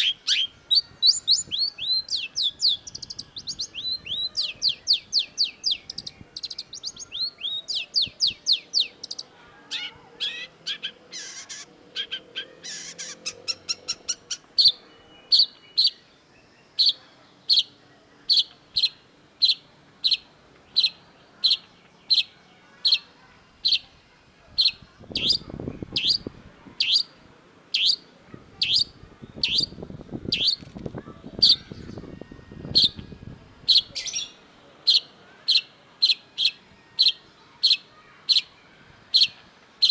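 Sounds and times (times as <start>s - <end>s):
shrike singing: 0.0s - 24.0s, 24.6s - 39.9s.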